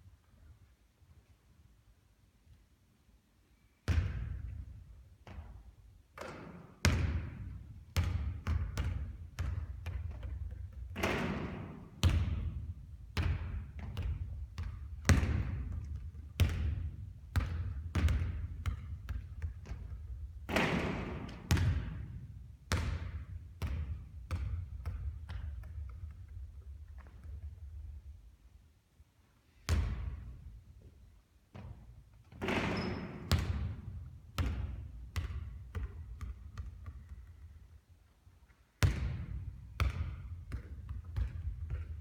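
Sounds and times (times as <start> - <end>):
basketballs bouncing on court floor: 3.9 - 5.6, 6.2 - 28.0, 29.7 - 30.5, 31.5 - 37.6, 38.8 - 42.0.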